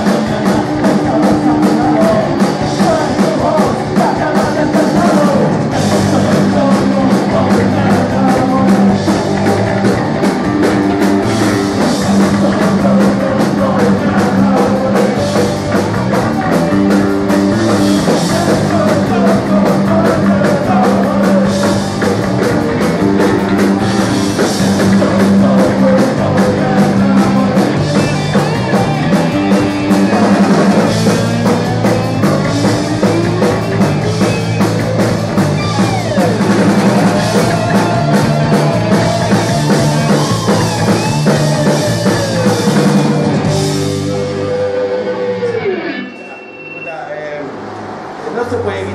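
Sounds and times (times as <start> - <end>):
person singing: 0.0 - 34.4, 35.6 - 46.1
drum kit beat: 0.0 - 45.5
distorted electric guitar: 0.0 - 48.9
electric bass: 0.0 - 48.9.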